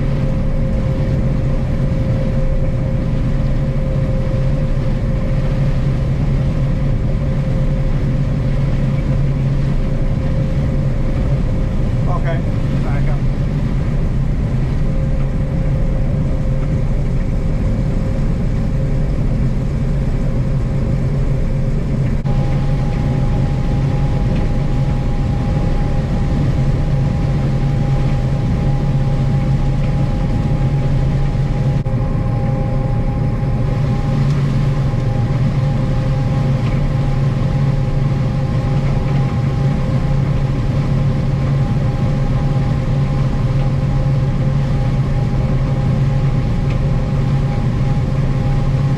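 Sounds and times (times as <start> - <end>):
farm machinery engine running: 0.0 - 48.9
higher whine: 0.0 - 48.9
thin whine: 0.0 - 48.9.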